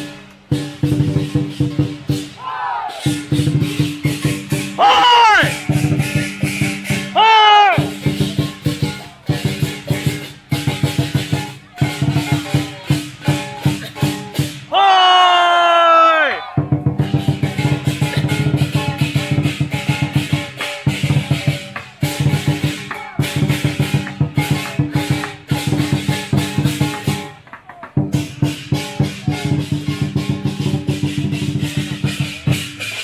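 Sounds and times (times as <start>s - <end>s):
clashing cymbals: 0.0s - 14.8s, 16.8s - 27.4s, 28.1s - 33.0s
drum beaten in fast strokes: 0.0s - 33.0s.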